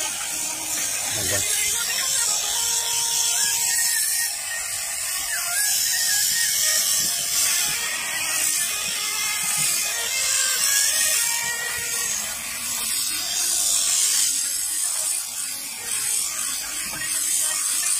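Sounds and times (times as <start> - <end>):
electric shears clipping fleece: 0.0 - 17.9.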